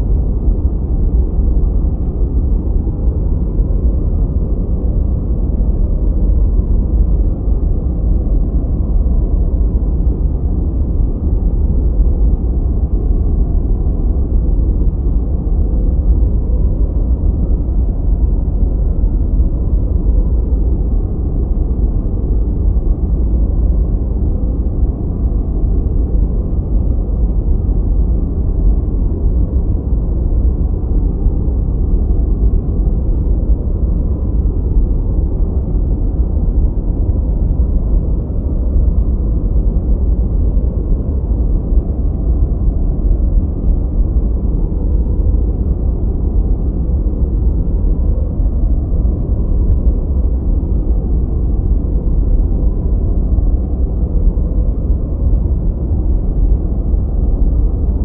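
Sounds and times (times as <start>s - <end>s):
deep rumbling white noise: 0.0s - 58.0s.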